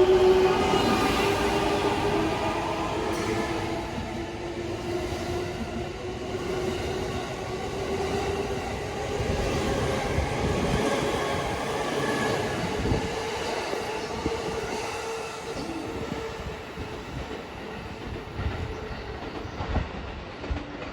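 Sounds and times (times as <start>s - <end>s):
steady train whine: 0.0s - 20.9s.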